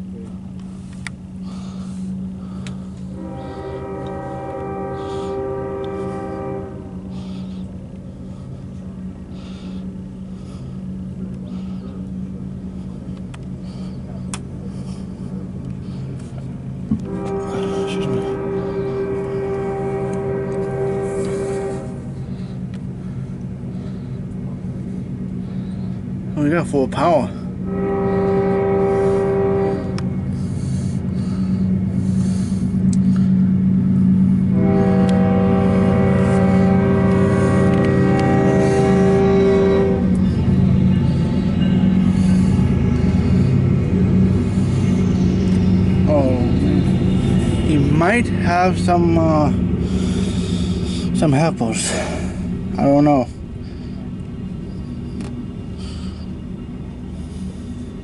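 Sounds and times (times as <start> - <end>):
locomotive engine drone: 0.0 - 58.0.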